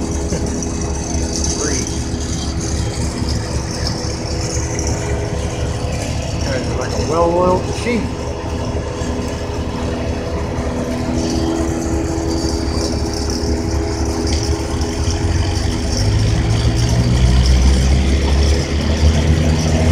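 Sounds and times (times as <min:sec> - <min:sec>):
deep low hum: 0:00.0 - 0:19.9
truck engine idling: 0:00.0 - 0:19.9.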